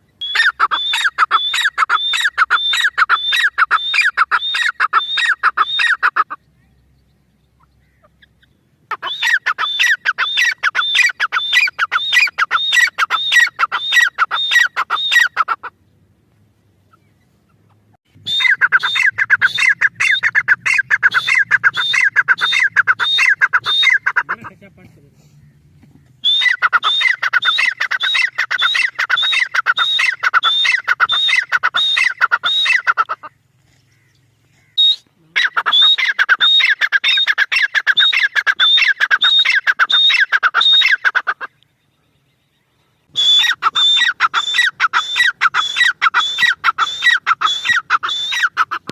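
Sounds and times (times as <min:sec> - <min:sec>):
partridge calling sharp notes: 0:00.0 - 0:16.0, 0:16.8 - 0:48.9.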